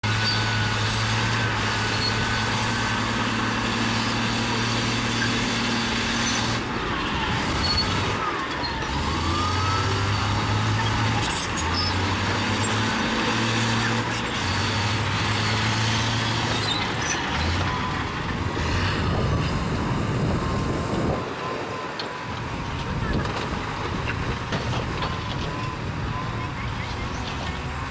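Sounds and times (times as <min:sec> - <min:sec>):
bulldozer diesel engine under load: 0:00.0 - 0:27.9.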